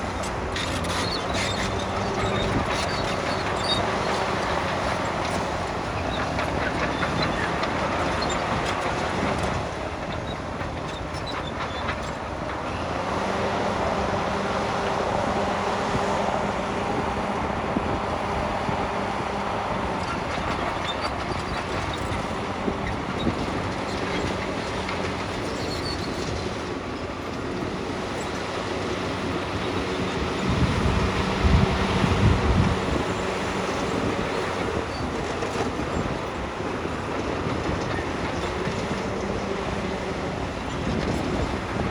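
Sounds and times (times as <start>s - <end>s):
diesel construction machine running: 0.0s - 41.9s.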